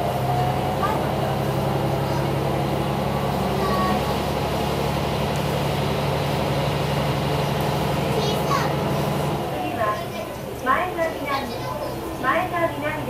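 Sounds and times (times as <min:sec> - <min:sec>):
diesel railcar engine droning: 0:00.0 - 0:13.0
railcar passing alongside: 0:00.0 - 0:13.0.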